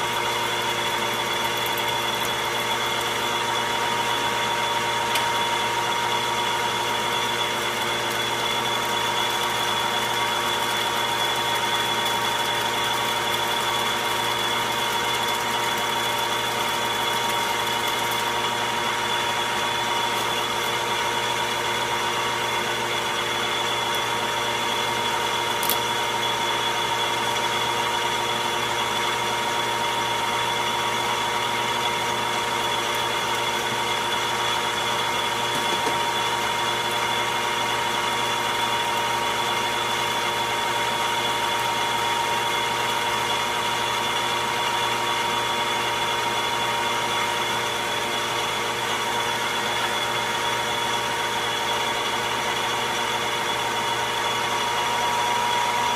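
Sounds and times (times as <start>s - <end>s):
metal lathe humming: 0.0s - 55.9s.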